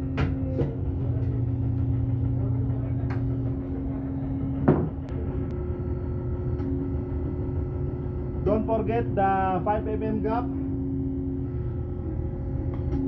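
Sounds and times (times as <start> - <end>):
crimping machine humming: 0.0 - 13.0.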